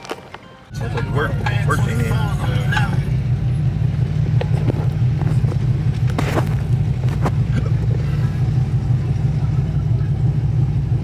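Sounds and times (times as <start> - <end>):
car engine idling: 0.7 - 11.0.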